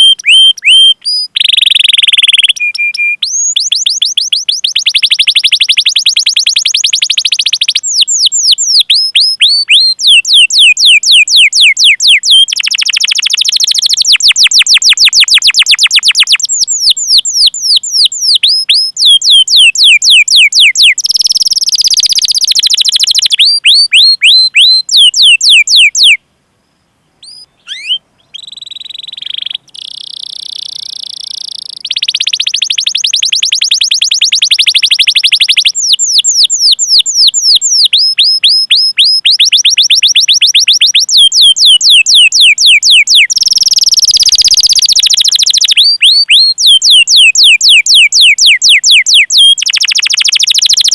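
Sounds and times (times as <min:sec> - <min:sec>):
canary singing chirps and trills: 0:00.0 - 0:26.2, 0:27.2 - 0:50.9.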